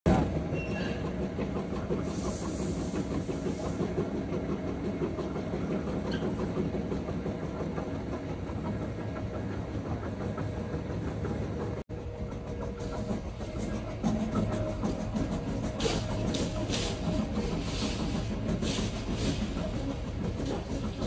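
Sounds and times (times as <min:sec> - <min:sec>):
rubber mill mechanical rumble: 0:00.1 - 0:21.0.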